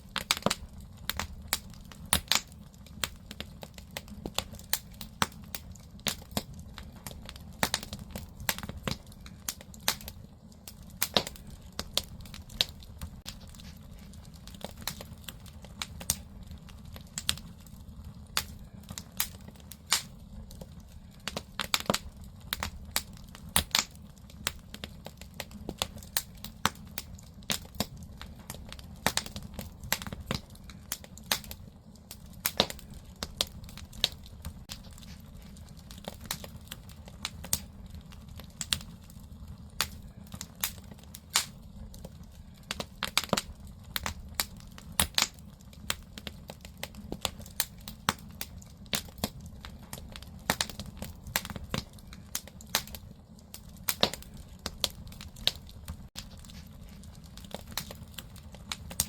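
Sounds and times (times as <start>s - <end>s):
firewood crackling with pops: 0.0s - 59.0s
low steady fire rumble: 0.0s - 59.0s.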